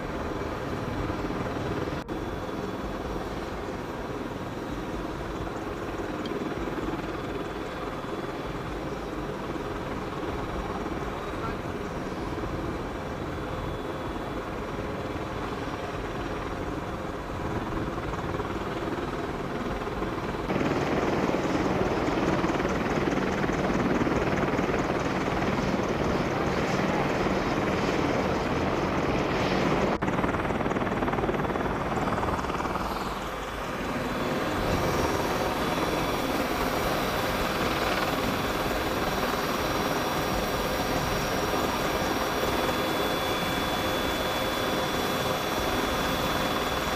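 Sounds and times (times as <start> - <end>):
helicopter turbine and rotor noise: 0.0 - 46.9.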